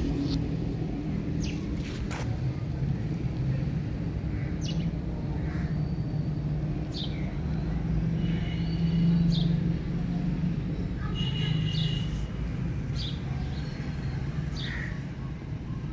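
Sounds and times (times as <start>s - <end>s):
small birds chirping: 0.0s - 2.4s, 3.0s - 9.9s, 10.7s - 15.8s
low traffic hum: 0.0s - 15.9s.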